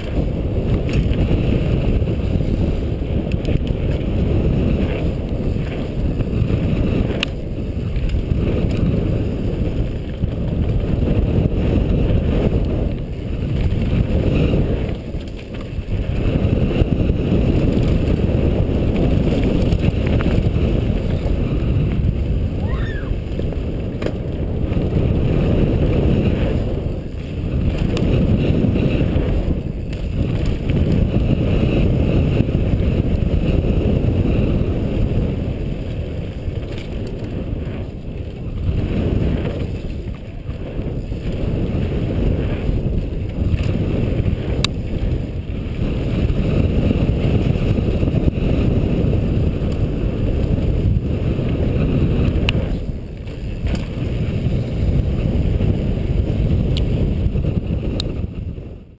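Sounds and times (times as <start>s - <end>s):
tyres rumbling on loose dirt: 0.0s - 58.9s
wind buffeting microphone: 0.0s - 58.9s.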